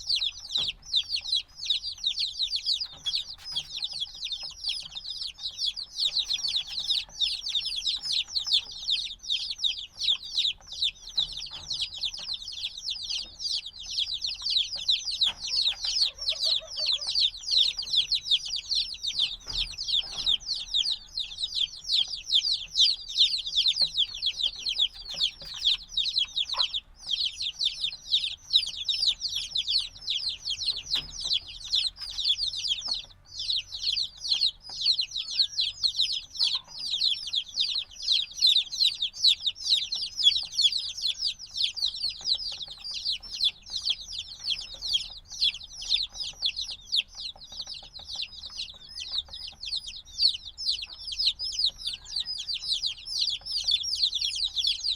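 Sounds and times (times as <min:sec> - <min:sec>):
chicks peeping loudly: 0:00.0 - 0:54.9.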